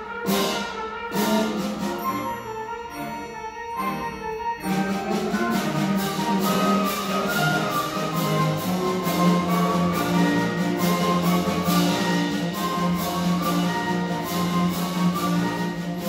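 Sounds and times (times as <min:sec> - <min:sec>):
concert band playing: 0:00.0 - 0:16.0
clarinets and saxophones sustained notes: 0:01.0 - 0:16.0.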